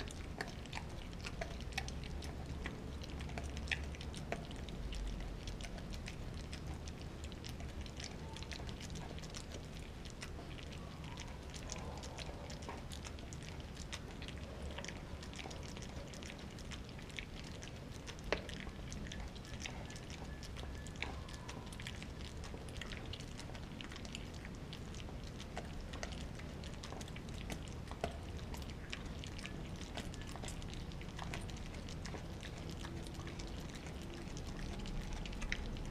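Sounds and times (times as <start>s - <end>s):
dog gnawing frozen bone: 0.0s - 35.9s.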